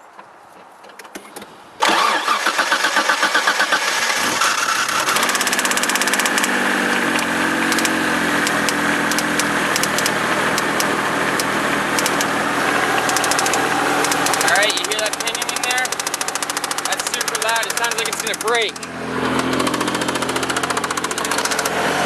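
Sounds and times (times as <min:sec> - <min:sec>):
starter cranking: 0:01.8 - 0:21.9
engine running with rapid knocking: 0:03.8 - 0:22.0.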